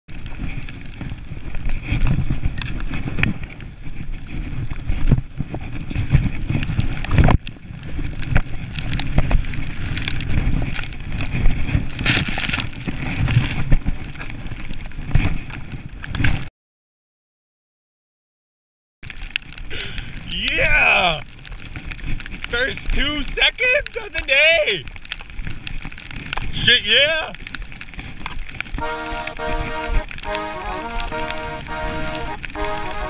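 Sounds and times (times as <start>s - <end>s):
wind buffeting microphone: 0.1s - 16.5s, 19.7s - 33.0s.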